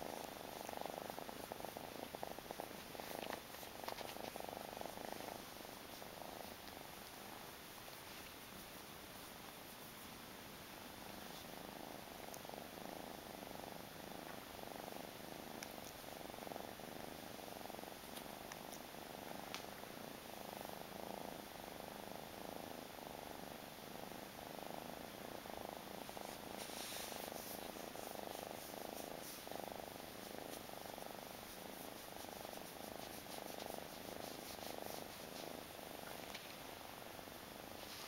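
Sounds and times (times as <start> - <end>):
kitten purring: 0.0 - 38.0.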